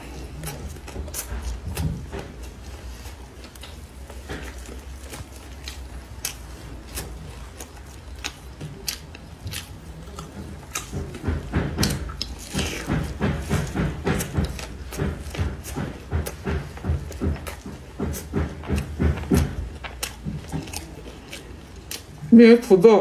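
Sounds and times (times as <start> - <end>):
crunchy biting and chewing: 0.0 - 22.4.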